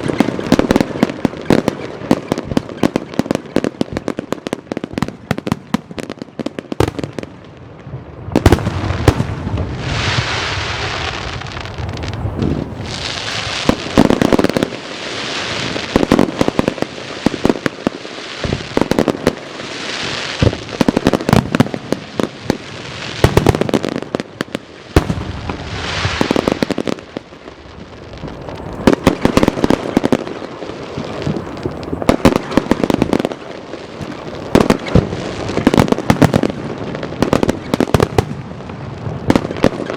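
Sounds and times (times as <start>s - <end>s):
fireworks crackling and hissing: 0.0s - 39.9s.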